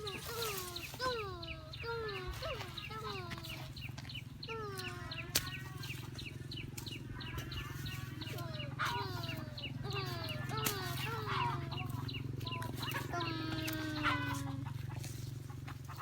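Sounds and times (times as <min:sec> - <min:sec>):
chickens peeping: 0:00.0 - 0:16.0.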